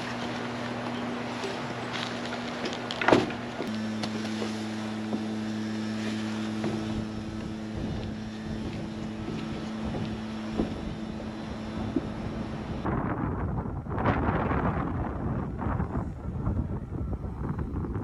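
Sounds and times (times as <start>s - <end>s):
snow-clearing machine engine humming: 0.0s - 18.0s.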